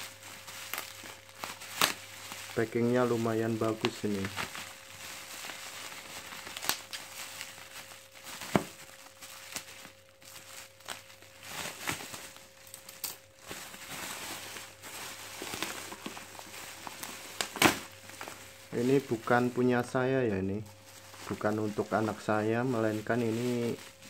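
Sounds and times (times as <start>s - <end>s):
plastic and bubble wrap crinkling: 0.0s - 24.0s.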